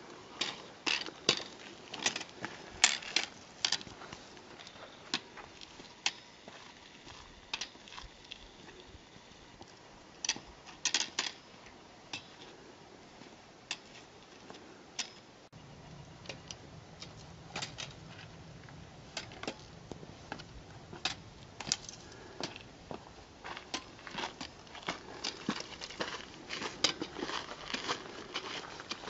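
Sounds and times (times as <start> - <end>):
footsteps on rough trail ground: 0.0 - 10.8, 15.6 - 29.0.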